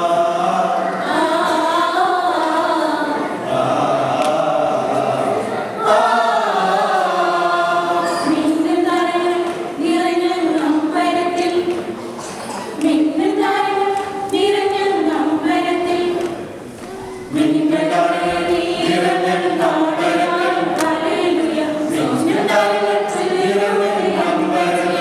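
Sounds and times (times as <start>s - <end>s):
choir singing unaccompanied: 0.0s - 25.0s.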